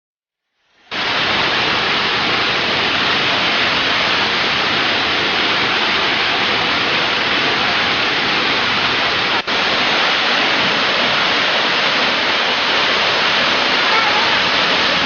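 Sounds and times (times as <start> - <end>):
waterfall roaring: 0.9 - 15.0.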